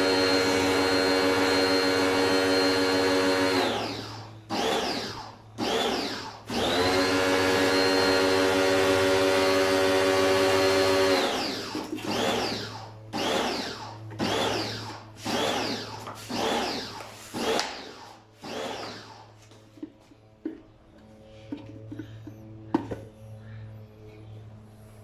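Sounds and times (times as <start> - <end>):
appliance motor whine: 0.0 - 22.9.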